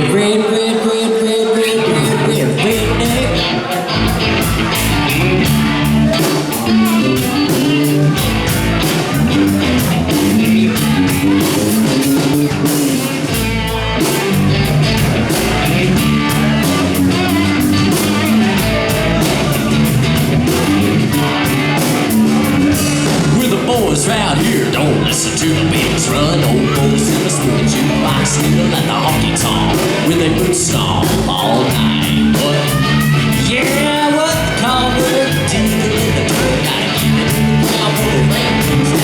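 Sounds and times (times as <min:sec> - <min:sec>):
guitars: 0:00.0 - 0:39.0
steady drum beat: 0:02.0 - 0:39.0.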